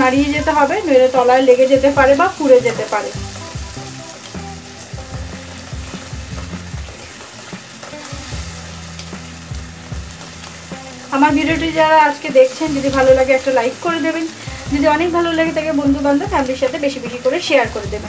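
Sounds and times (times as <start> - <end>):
paste sizzling in oil: 0.0 - 18.0.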